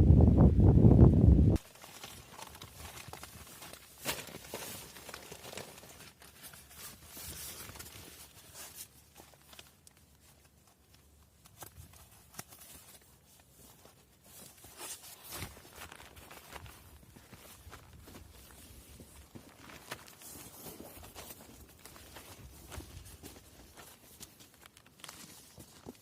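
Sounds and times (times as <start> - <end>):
faint rustling: 1.6 - 26.0.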